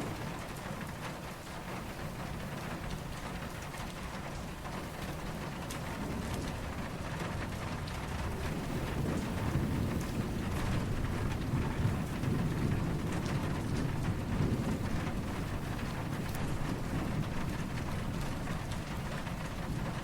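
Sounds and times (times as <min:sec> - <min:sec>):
distant thunder rumbling: 0:00.0 - 0:20.0
steady rain falling: 0:00.0 - 0:20.0.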